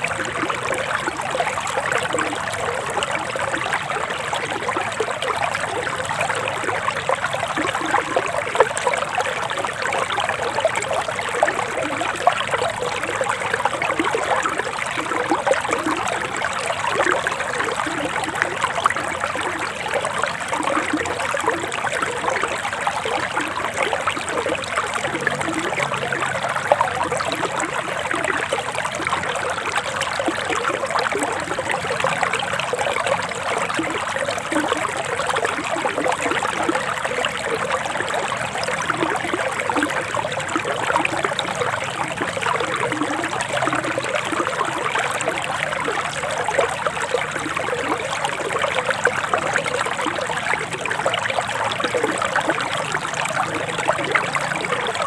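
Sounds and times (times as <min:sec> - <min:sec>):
river water babbling over stones: 0:00.0 - 0:55.0.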